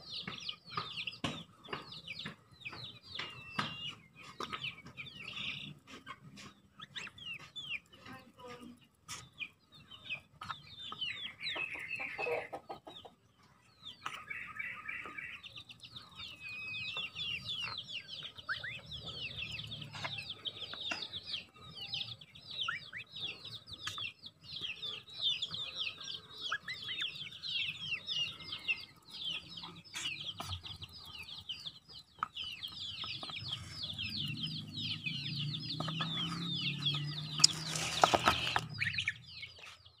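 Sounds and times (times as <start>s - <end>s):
goslings peeping: 2.2s - 7.9s, 9.1s - 13.1s, 13.9s - 39.8s.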